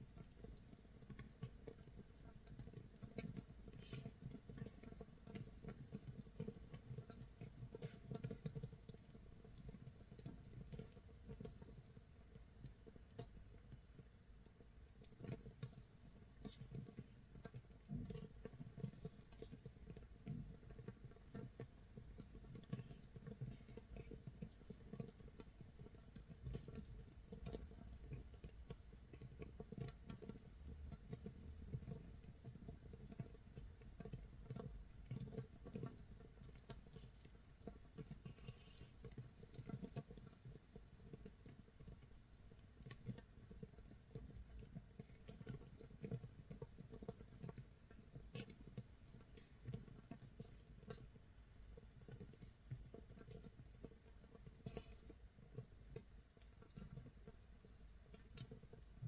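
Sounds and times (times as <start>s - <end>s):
small bubbles popping crackle: 0.0s - 59.0s.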